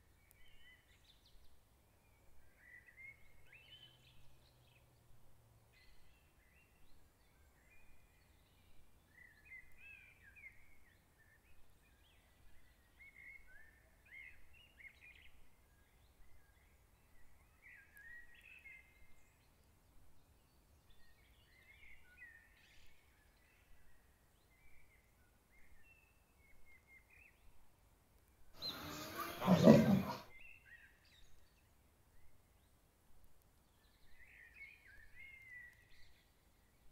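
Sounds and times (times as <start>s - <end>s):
faint small birds chirping: 0.0s - 36.9s
low background noise: 0.0s - 36.9s.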